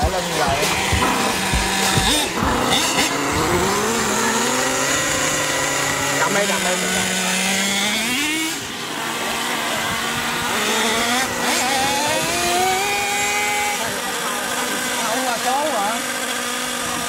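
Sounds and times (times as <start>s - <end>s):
small nitro engine revving: 0.0s - 17.0s.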